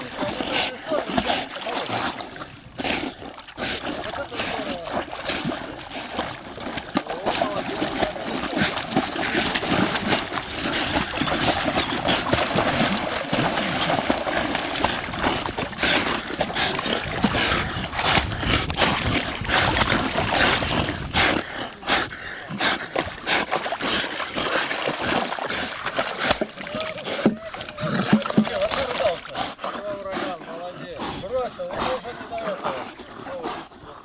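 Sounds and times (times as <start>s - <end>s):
water splashing from swimming dogs: 0.0s - 34.0s.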